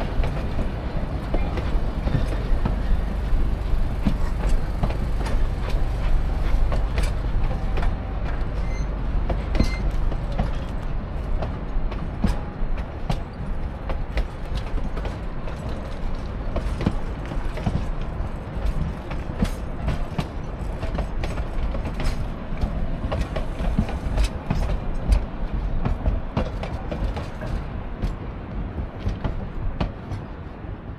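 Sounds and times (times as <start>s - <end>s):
sharp clicks from wheels: 0.0s - 28.2s
steel wheels rumbling on rails: 0.0s - 30.9s.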